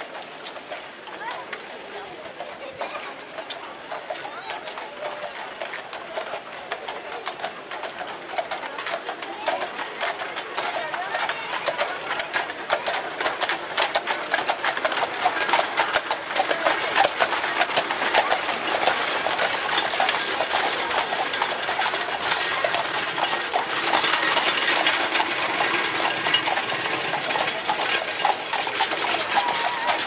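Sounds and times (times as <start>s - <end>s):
hooves clopping on asphalt: 0.0s - 30.0s
metallic rattle of cart wheels: 0.0s - 30.0s.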